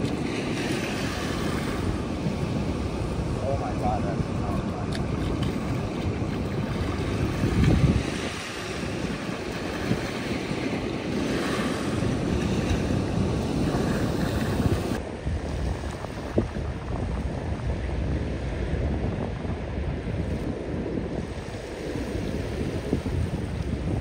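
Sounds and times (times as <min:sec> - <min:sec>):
small waves washing onto beach: 0:00.0 - 0:24.0
wind rumbling on microphone: 0:00.0 - 0:24.0.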